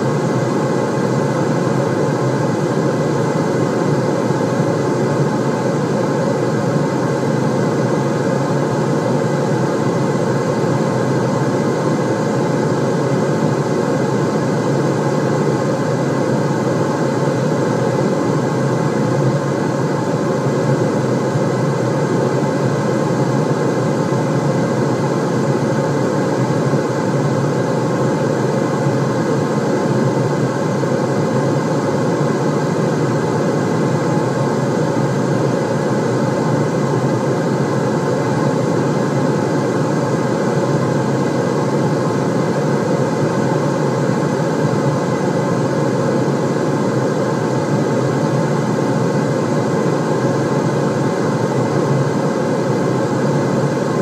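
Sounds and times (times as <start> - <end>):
deep rushing white noise: 0.0 - 54.0.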